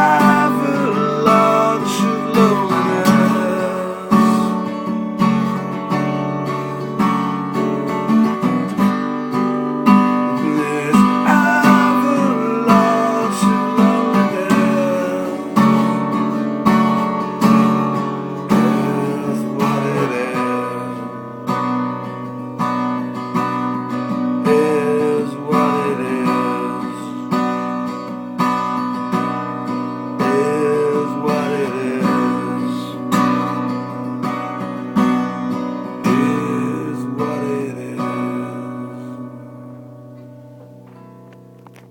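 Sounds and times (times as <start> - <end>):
acoustic guitar strumming: 0.0 - 41.9.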